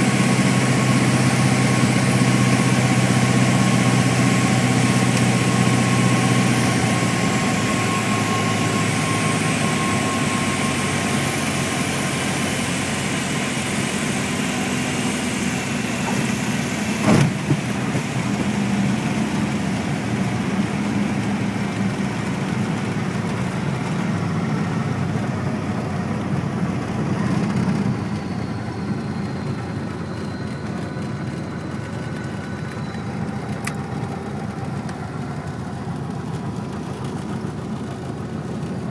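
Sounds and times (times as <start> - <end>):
light aircraft engine humming: 0.0 - 38.9.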